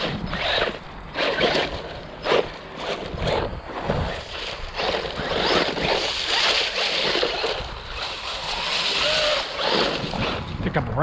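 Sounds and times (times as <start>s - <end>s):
rc truck electric motor: 0.0s - 10.6s.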